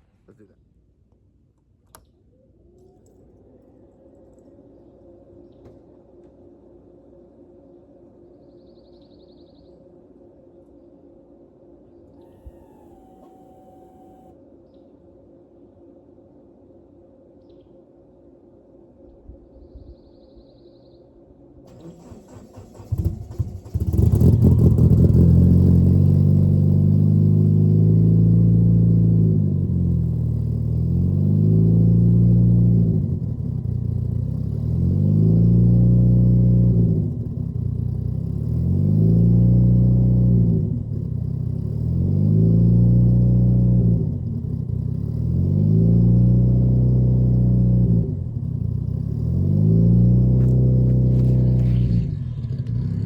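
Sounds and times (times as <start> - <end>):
car engine idling with surge: 2.6 - 14.8, 21.4 - 53.0.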